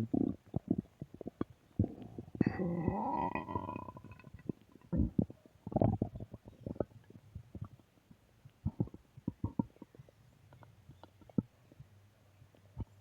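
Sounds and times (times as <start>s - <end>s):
stomach gurgling: 0.0s - 13.0s.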